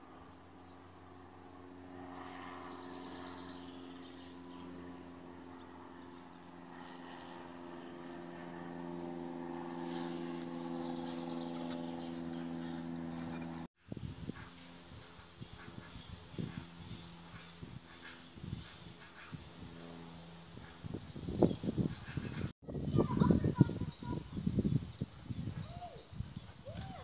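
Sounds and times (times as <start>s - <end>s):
engine hum: 0.0s - 22.5s.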